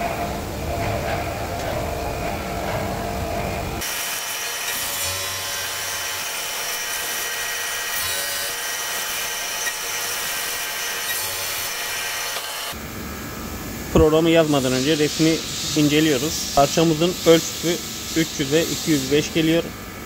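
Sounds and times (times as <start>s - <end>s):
milling machine cutting metal: 0.0s - 12.8s, 14.2s - 19.9s.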